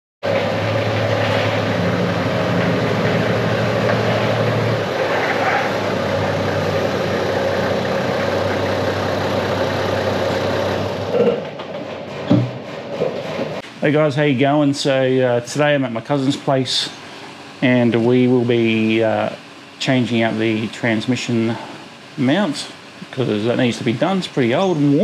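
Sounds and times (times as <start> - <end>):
diesel engine running: 0.2 - 25.0.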